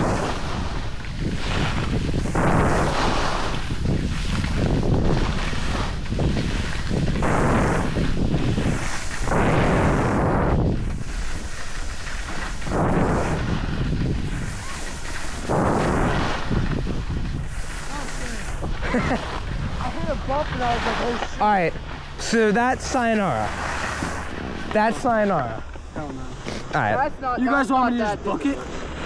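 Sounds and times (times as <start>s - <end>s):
wind on microphone: 0.0s - 26.9s
ski edges scraping snow: 0.0s - 29.0s.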